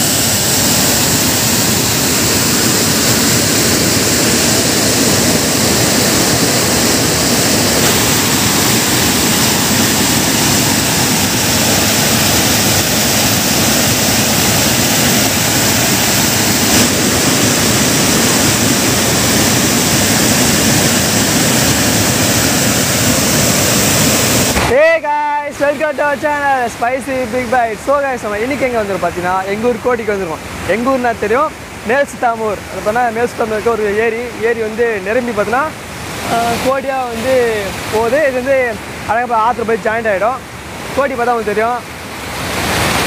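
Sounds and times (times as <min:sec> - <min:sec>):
water rushing over stone weir: 0:00.0 - 0:43.0.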